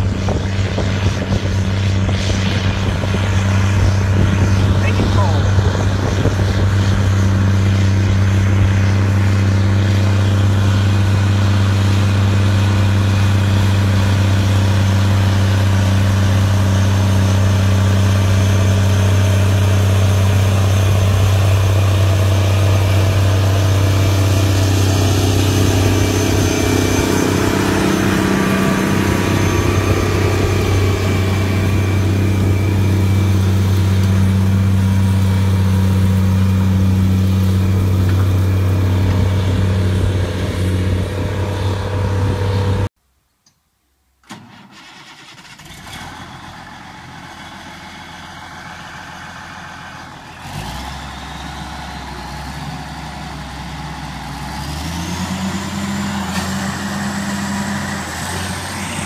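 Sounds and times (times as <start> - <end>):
tractor diesel engine drone: 0.0 - 43.0, 44.2 - 59.0.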